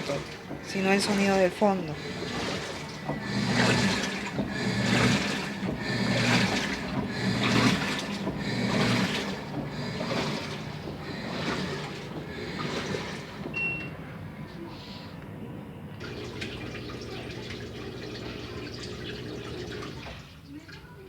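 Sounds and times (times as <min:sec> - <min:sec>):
water sloshing: 0:00.0 - 0:14.9, 0:15.5 - 0:21.0
low motor hum: 0:00.0 - 0:20.7
washing machine drum turning: 0:00.0 - 0:21.0.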